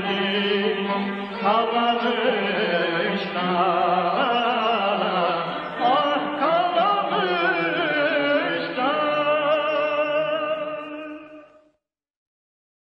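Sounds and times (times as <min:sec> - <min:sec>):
art song music: 0:00.0 - 0:11.6
person singing with vibrato: 0:00.0 - 0:11.7.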